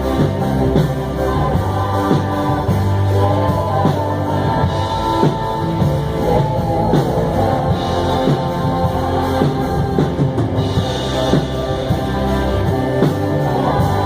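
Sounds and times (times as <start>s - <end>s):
drum kit beat: 0.0s - 14.0s
rock band playing: 0.0s - 14.0s.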